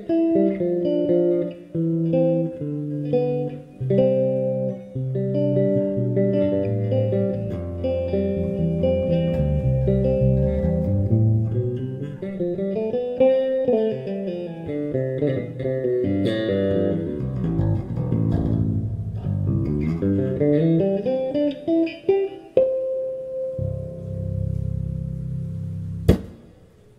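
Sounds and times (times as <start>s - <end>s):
electric bass playing: 0.0s - 26.2s.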